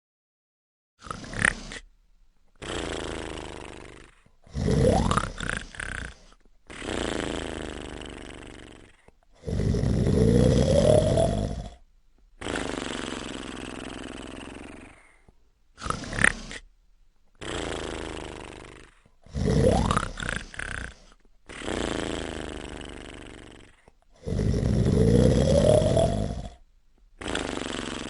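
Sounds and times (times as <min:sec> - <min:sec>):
person snoring: 0:01.0 - 0:01.9, 0:02.6 - 0:16.7, 0:17.4 - 0:28.0
soft breaths: 0:01.0 - 0:28.0.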